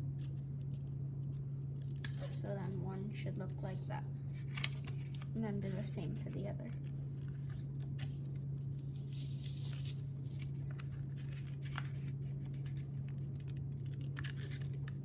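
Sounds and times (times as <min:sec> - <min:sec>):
steady low hum: 0:00.0 - 0:15.0
paper rustling and crinkling: 0:00.2 - 0:15.0.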